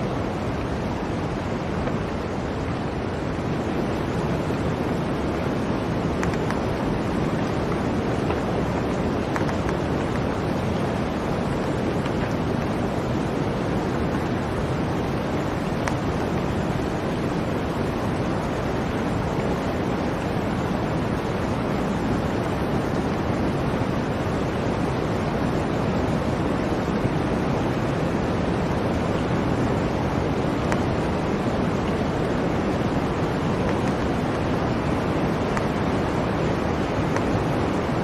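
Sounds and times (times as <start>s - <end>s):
blizzard wind: 0.0s - 38.0s.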